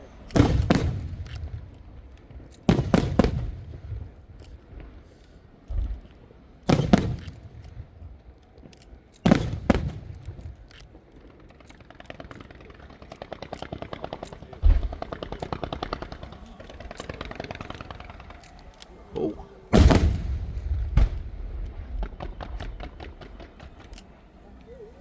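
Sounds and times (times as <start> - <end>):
fireworks booming: 0.0 - 8.4, 9.2 - 23.9
low fireworks thumps: 0.0 - 18.5, 19.8 - 23.9
crackling firework pops: 0.3 - 18.8, 19.8 - 24.1.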